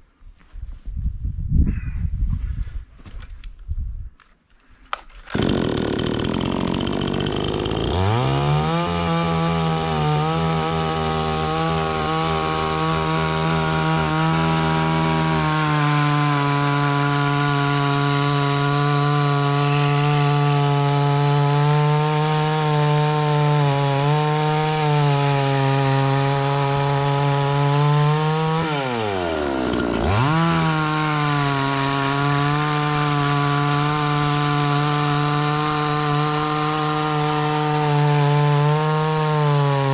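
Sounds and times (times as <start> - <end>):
chainsaw engine running: 5.3 - 39.9.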